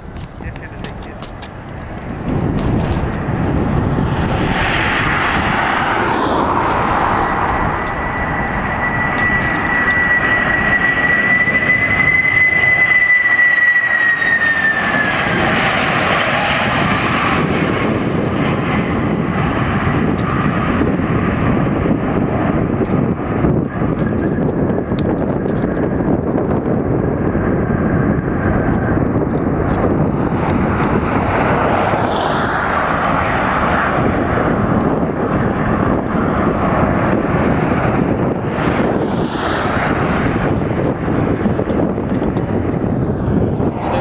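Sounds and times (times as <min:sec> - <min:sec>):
jet engine roar and whine: 0:00.0 - 0:44.0.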